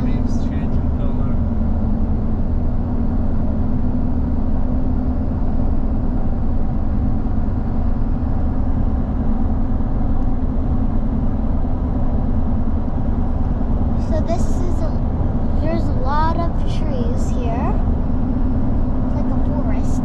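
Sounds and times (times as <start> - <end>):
car cabin road and engine drone: 0.0 - 20.0.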